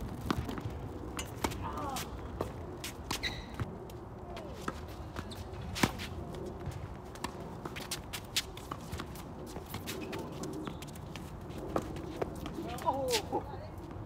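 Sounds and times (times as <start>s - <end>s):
footsteps scuffing on court: 0.1s - 3.7s, 4.4s - 14.0s.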